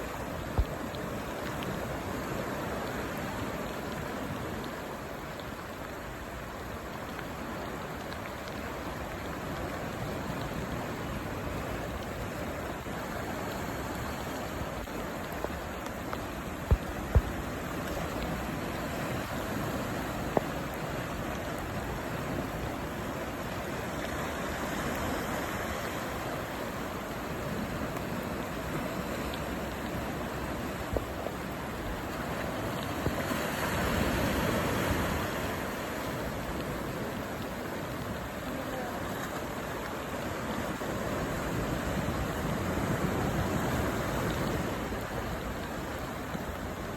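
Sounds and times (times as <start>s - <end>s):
heavy rain pouring: 0.0s - 46.9s
stormy sea surf: 0.0s - 46.9s
wind: 0.0s - 46.9s.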